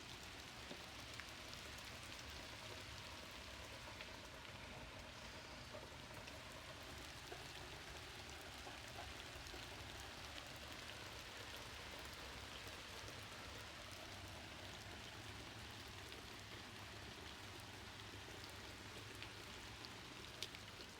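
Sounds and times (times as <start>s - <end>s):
faint steady rain: 0.0s - 20.9s
raindrops ticking on a surface: 0.0s - 20.9s.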